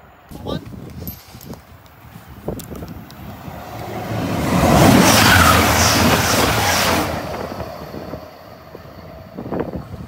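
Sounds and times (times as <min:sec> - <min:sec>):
high-speed train passing: 0:01.4 - 0:10.0.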